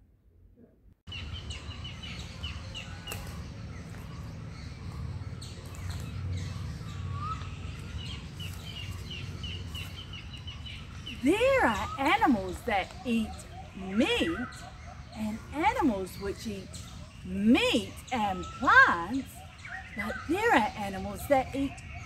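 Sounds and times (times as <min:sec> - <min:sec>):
bird chirping: 0:01.1 - 0:22.0.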